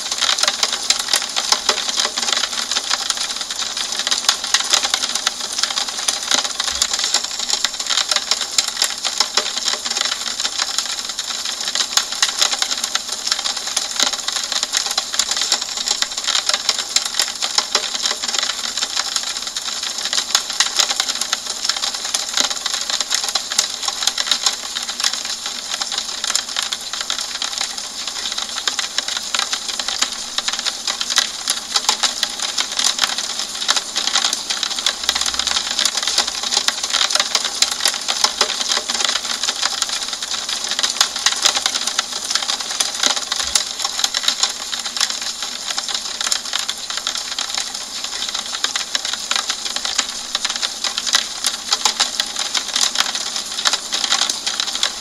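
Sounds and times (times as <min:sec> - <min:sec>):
rain on a window pane: 0:00.0 - 0:55.0.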